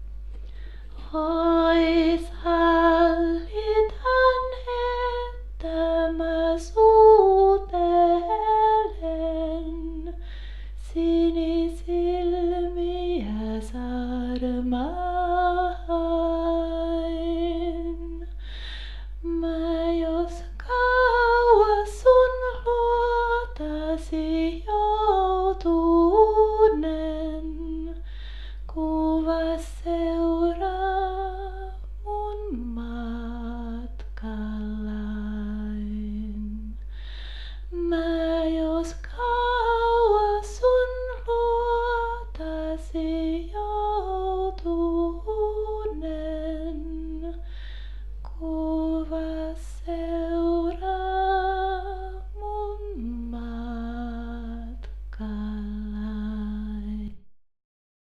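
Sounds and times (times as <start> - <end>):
steady low hum: 0.0 - 57.3
woman singing slowly: 0.9 - 10.2, 10.8 - 18.4, 19.2 - 28.1, 28.7 - 36.9, 37.7 - 47.5, 48.2 - 57.2.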